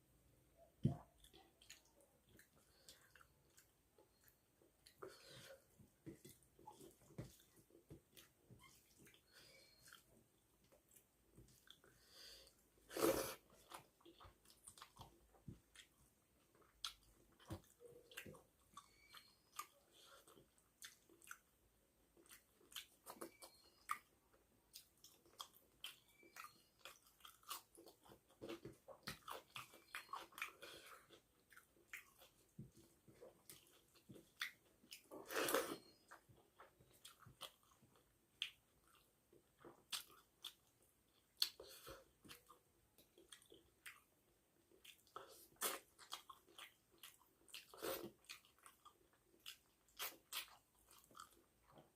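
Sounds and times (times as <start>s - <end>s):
wet chewing and smacking: 0.9s - 12.6s, 13.4s - 51.9s.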